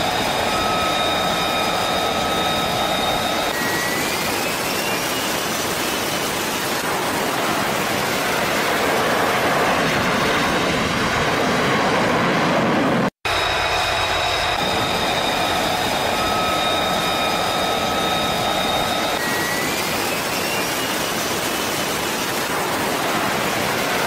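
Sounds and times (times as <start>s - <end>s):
jet engine roaring at high power: 0.0s - 24.0s.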